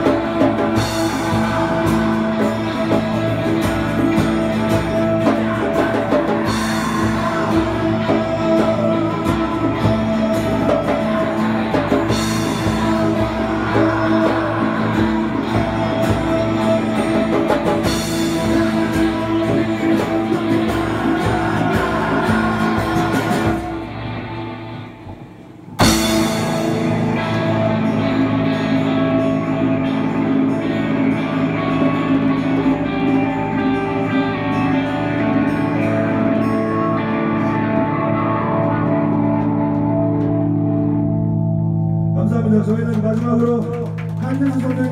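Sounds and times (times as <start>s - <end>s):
live rock band playing: 0.0s - 42.6s.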